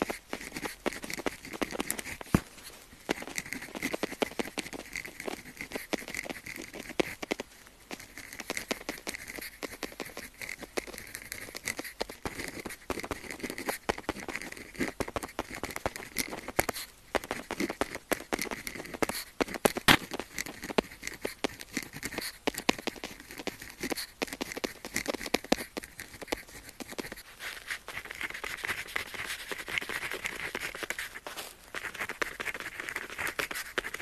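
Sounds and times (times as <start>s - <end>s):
pen scratching on paper: 0.0s - 34.0s.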